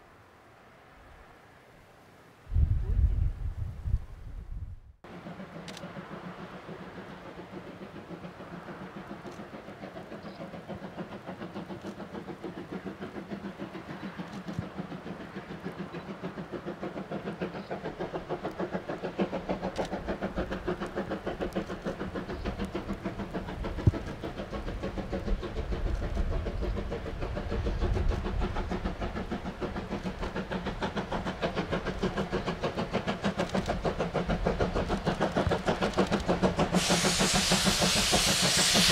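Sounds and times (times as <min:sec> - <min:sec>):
steam locomotive exhaust chuffing: 0:05.1 - 0:38.9.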